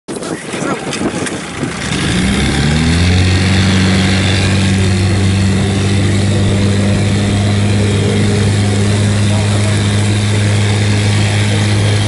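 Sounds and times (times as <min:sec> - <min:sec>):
outboard motor revving: 0:00.5 - 0:12.0.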